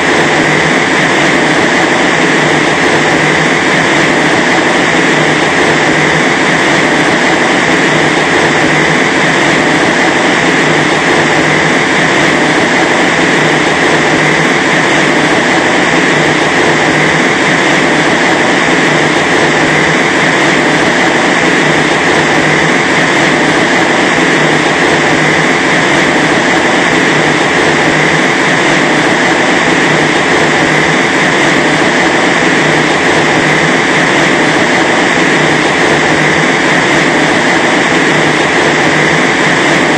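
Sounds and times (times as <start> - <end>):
loud rush of blower air: 0.0 - 39.9.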